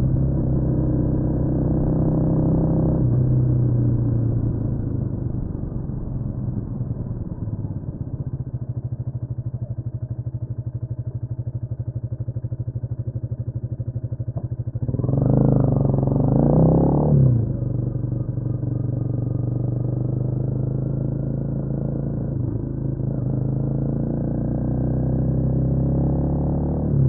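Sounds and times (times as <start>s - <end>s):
motorcycle engine: 0.0s - 27.0s.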